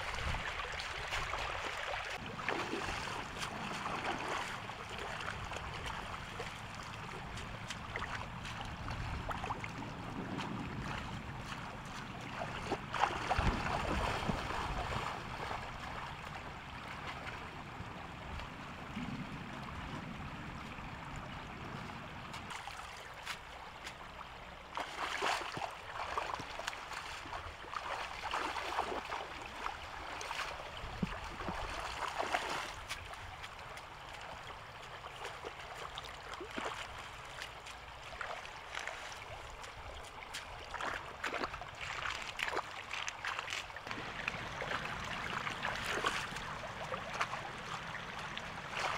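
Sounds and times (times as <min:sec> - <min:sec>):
splashing in water: 0:00.0 - 0:17.4, 0:24.7 - 0:48.9
shallow water flowing: 0:00.0 - 0:48.9.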